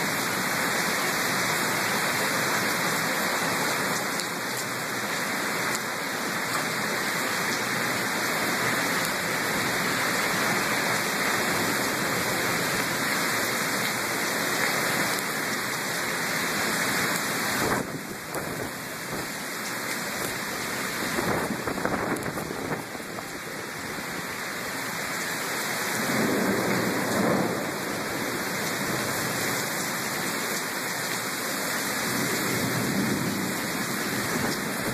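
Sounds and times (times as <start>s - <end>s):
heavy rain on pavement: 0.0s - 34.9s.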